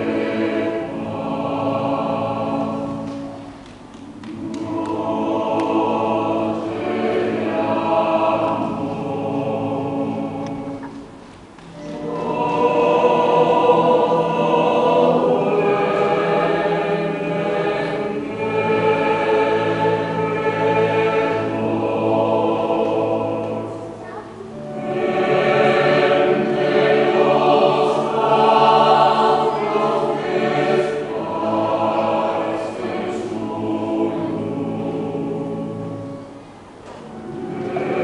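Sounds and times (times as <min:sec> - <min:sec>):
mixed choir singing: 0:00.0 - 0:11.0, 0:11.8 - 0:38.0.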